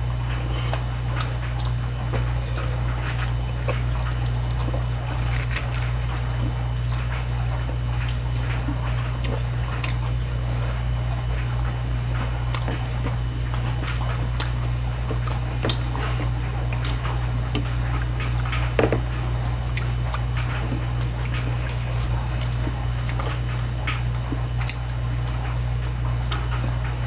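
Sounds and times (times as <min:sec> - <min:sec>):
person chewing crunchy food: 0:00.0 - 0:27.0
steady low hum: 0:00.0 - 0:27.0.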